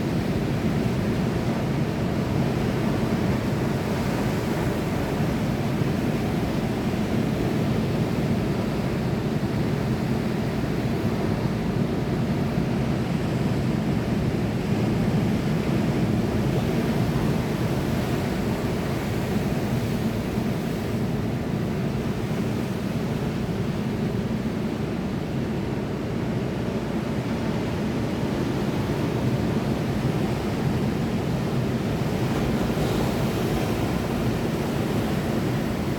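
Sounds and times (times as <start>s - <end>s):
sea waves and surf: 0.0s - 35.9s.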